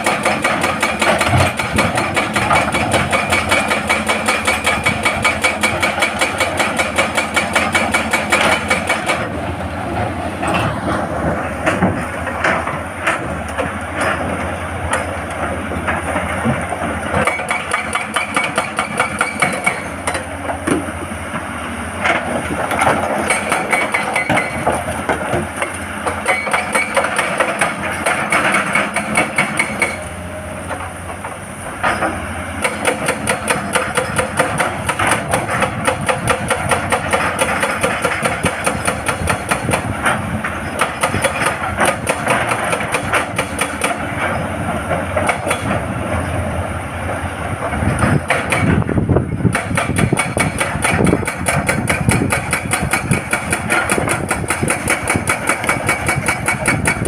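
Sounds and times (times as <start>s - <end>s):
hydraulic rock breaker hammering: 0.0s - 9.4s, 11.6s - 45.9s, 47.6s - 57.0s
diesel engine running: 0.0s - 57.0s.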